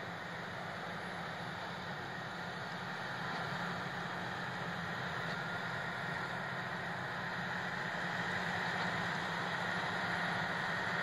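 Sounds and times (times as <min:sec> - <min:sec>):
harvest machinery engine running: 0:00.0 - 0:11.0.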